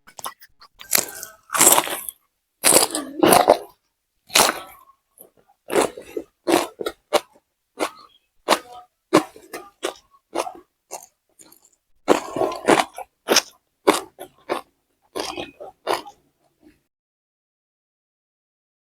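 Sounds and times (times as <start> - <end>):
crunchy chewing: 0.1 - 16.8.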